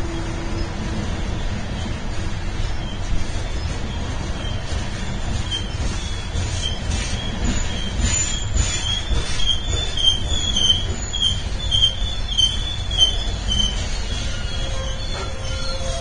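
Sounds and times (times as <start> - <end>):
freight train rumbling past: 0.0 - 16.0
train wheels squealing: 0.0 - 16.0.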